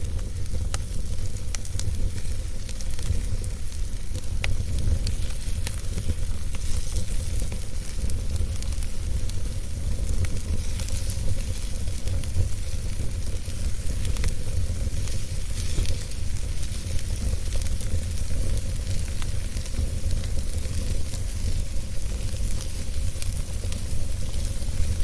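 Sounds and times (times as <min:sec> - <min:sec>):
fire crackles and pops: 0:00.0 - 0:25.0
wood fire hissing: 0:00.0 - 0:25.0.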